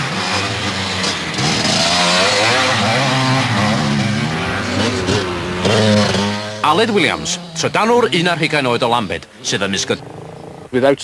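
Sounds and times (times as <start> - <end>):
dirt bikes revving past: 0.0 - 10.8.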